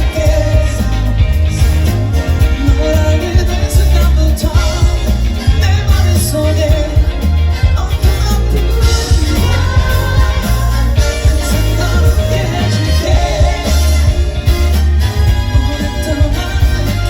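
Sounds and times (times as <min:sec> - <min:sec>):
person singing: 0:00.0 - 0:17.0
pop-rock band playing: 0:00.0 - 0:17.0.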